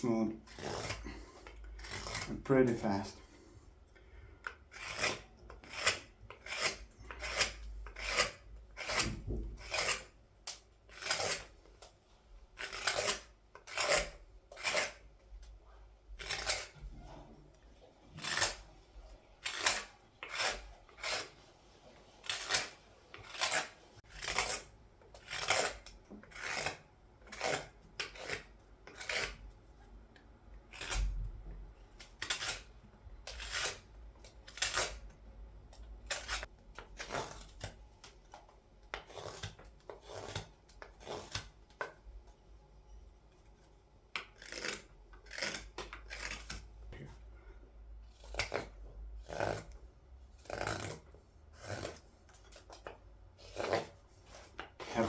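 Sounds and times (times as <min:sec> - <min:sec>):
carving blade scraping wood: 0:00.0 - 0:29.6, 0:30.6 - 0:31.3, 0:31.9 - 0:35.2, 0:35.8 - 0:42.0, 0:44.2 - 0:47.2, 0:48.0 - 0:55.0.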